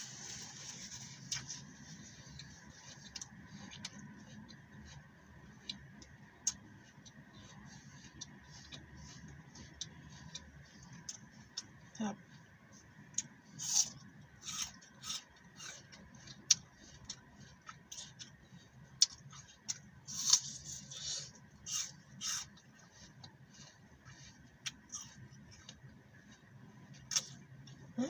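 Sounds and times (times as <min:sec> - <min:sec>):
apple being bitten and chewed: 0:00.0 - 0:11.8, 0:13.0 - 0:27.7.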